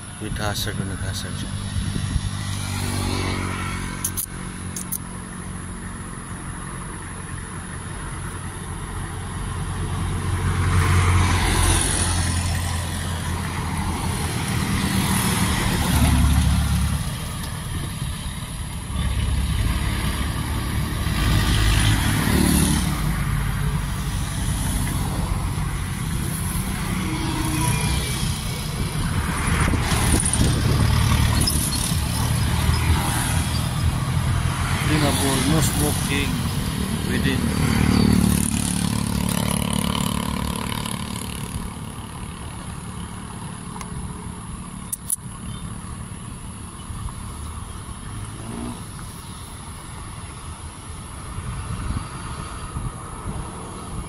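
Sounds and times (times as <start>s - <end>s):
cars and motorcycles passing: 0.0s - 54.0s.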